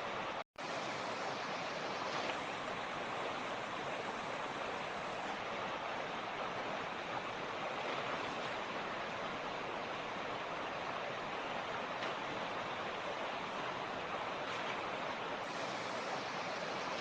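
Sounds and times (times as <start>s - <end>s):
creek water rushing over stones: 0.0s - 17.0s.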